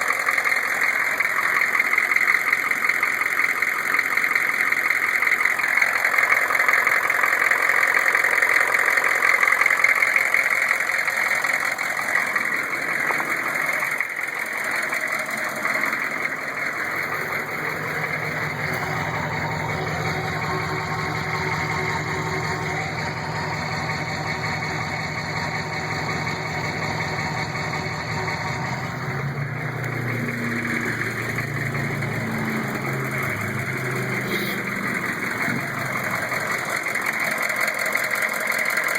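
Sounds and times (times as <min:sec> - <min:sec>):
diesel engine idling: 0:00.0 - 0:38.9
engine knock: 0:00.0 - 0:38.9.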